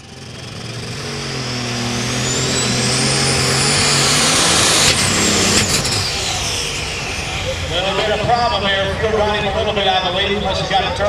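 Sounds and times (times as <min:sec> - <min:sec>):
high turbocharger whine: 0:00.0 - 0:11.0
tractor engine at full throttle: 0:00.0 - 0:11.0.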